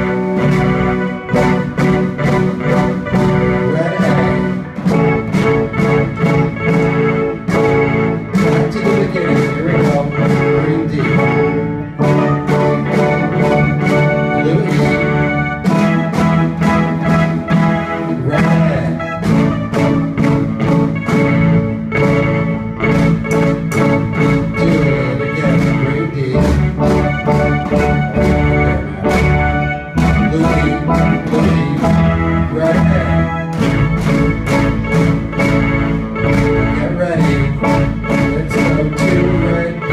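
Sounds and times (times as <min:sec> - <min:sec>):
drum kit beat: 0:00.0 - 0:39.9
electric guitar chords: 0:00.0 - 0:39.9
electric keyboard chords: 0:00.0 - 0:39.9.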